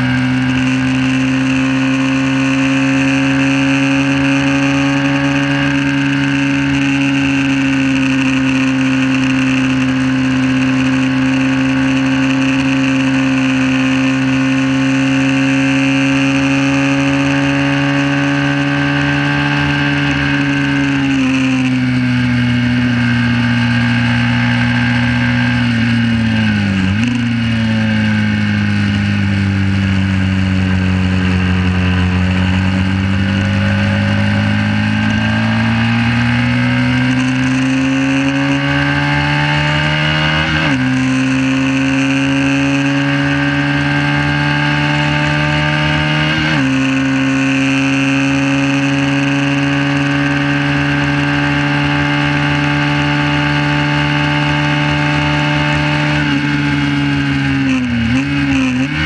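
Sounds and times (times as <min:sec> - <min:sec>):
motorcycle engine accelerating hard: 0:00.0 - 0:59.0.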